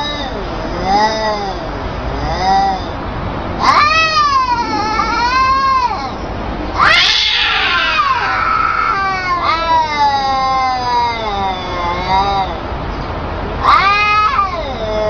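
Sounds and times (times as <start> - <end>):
cats meowing: 0.0 - 3.0, 3.6 - 12.9, 13.6 - 15.0.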